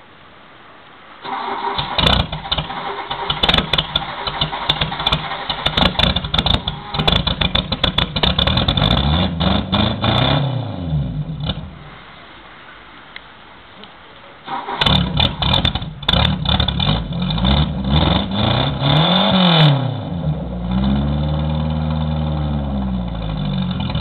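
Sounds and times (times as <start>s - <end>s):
exhaust crackling pops: 1.2s - 12.2s, 13.1s - 24.0s
motorcycle engine revving: 1.4s - 12.0s, 14.5s - 24.0s.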